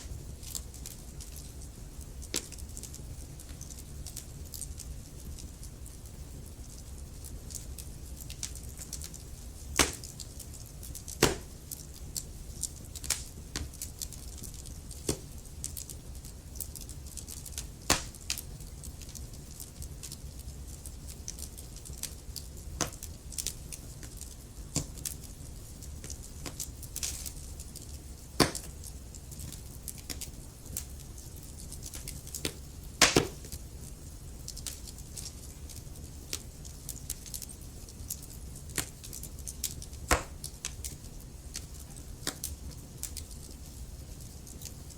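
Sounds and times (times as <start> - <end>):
low fire rumble: 0.0 - 44.9
wood fire crackling and popping: 0.0 - 44.9.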